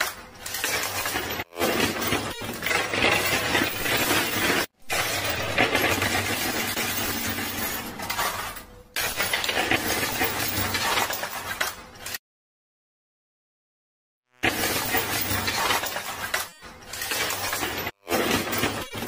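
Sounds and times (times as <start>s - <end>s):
coins and chips clattering: 0.0s - 12.2s, 14.4s - 19.0s.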